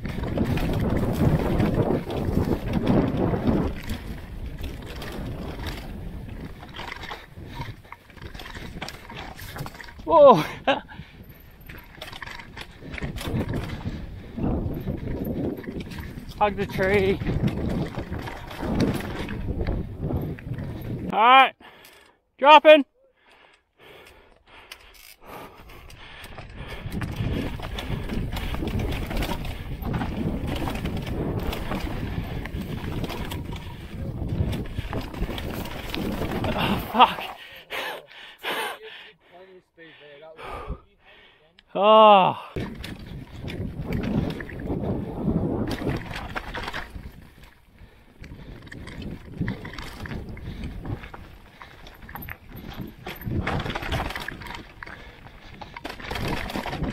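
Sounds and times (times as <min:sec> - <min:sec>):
bike tyres and frame rattling: 0:00.0 - 0:21.1, 0:23.9 - 0:38.5, 0:42.6 - 0:56.9
wind on microphone: 0:00.0 - 0:21.2, 0:25.9 - 0:37.3, 0:42.6 - 0:56.9.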